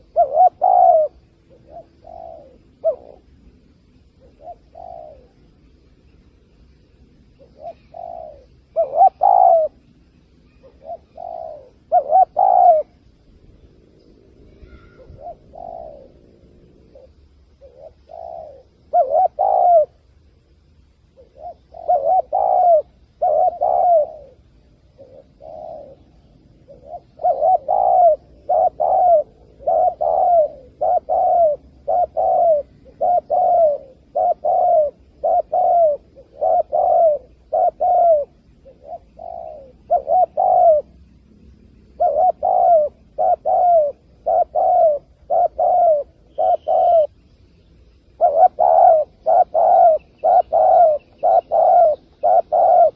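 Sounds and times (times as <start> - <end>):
dove cooing: 0.0 - 5.8, 6.6 - 20.2, 21.1 - 47.2, 48.0 - 52.9.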